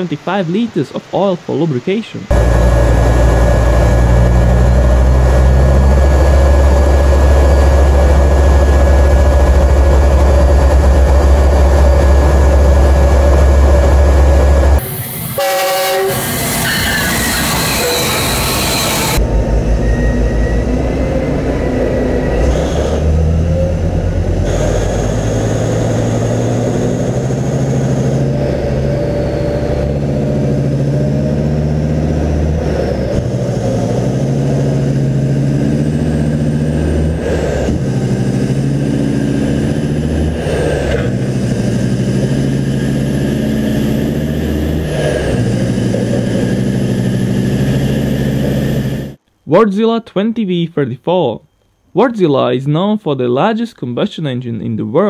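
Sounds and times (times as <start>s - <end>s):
diesel truck engine accelerating: 2.3s - 15.4s, 16.2s - 49.2s
passing train: 2.3s - 49.2s.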